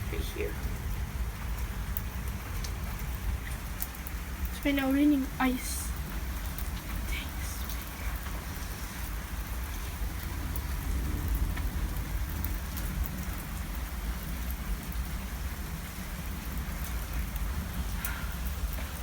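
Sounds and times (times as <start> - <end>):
low rumble: 0.0 - 15.4
hail and rain falling: 0.0 - 19.0.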